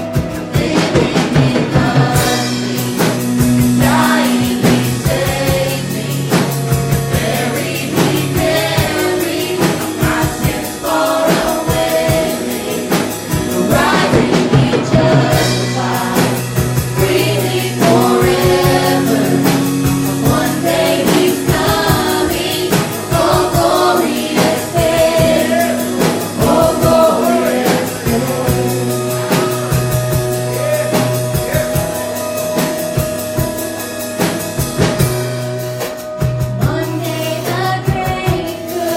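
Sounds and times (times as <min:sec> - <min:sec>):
instrumental accompaniment: 0:00.0 - 0:38.9
congregation singing a hymn: 0:00.1 - 0:31.5, 0:36.7 - 0:38.9.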